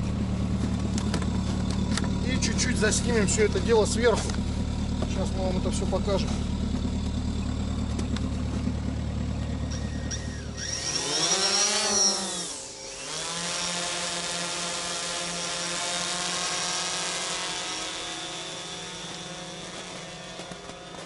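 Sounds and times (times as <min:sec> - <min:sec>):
drone propellers buzzing: 0:00.0 - 0:21.0
engine idling low hum: 0:00.0 - 0:21.0.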